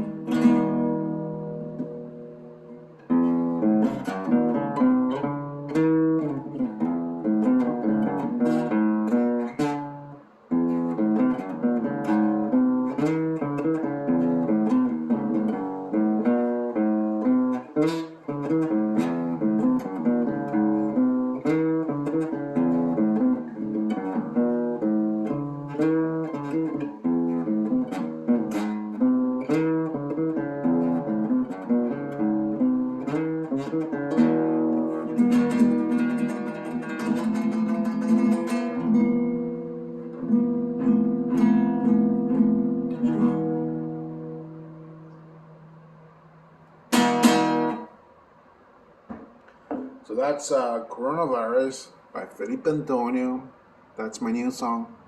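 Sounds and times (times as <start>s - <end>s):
acoustic guitar latin tune: 0.0s - 50.1s.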